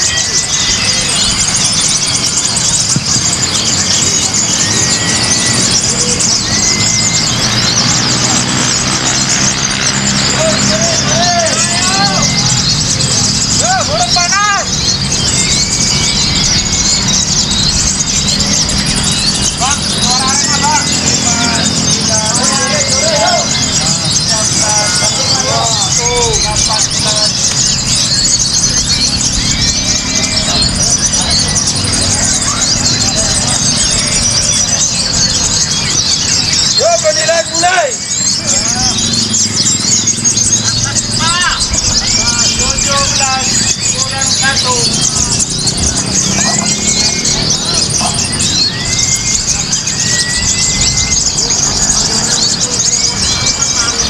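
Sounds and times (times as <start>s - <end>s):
low murmur of crowd: 0.0s - 54.0s
slurred bird whistles: 0.0s - 54.0s
sunbirds twittering: 0.0s - 54.0s.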